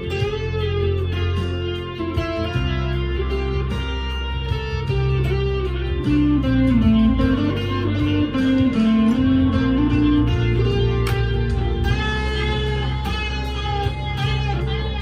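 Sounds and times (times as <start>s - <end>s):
electric guitar lead line: 0.0s - 15.0s.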